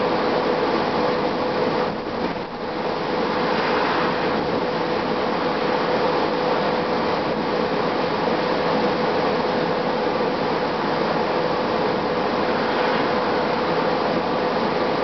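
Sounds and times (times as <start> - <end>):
bus diesel engine running: 0.0 - 15.0
road noise: 0.0 - 15.0
steady whine: 0.0 - 15.0.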